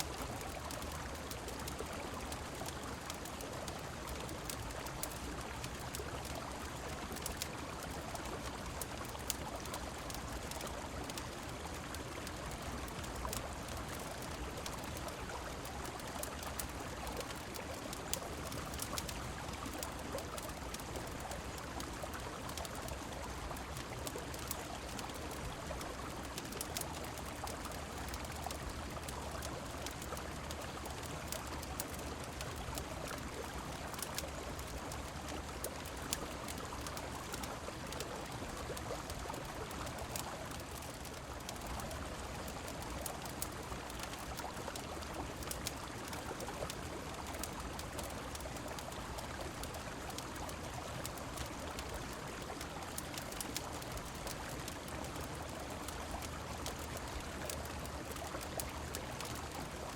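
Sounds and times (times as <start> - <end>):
rain falling: 0.0 - 59.9
fireplace crackles: 0.1 - 59.9.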